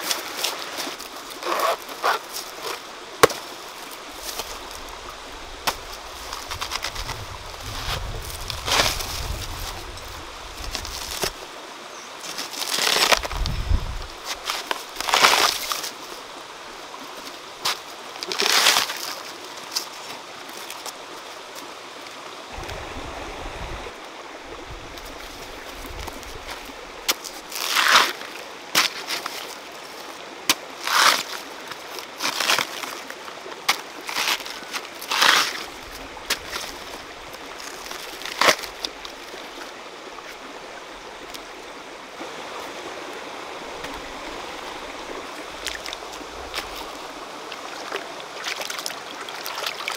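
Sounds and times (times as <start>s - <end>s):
stream running: 0.0s - 49.9s.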